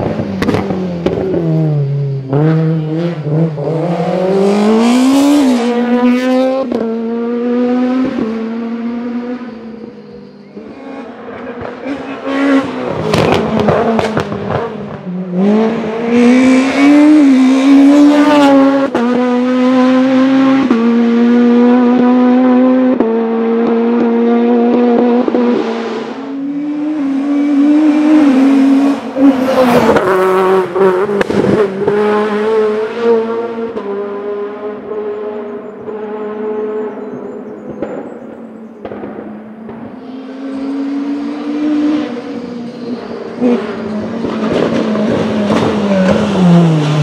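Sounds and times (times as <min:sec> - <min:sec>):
car engine revving through gears: 0:00.0 - 0:47.0.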